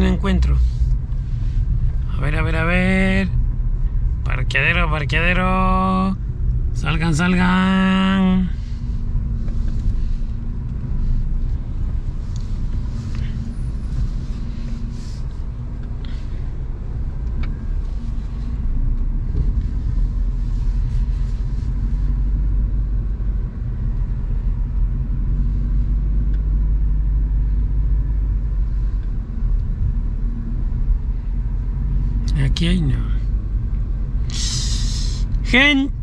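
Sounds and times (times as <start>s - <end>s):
car engine and tyres rumbling: 0.0s - 36.0s.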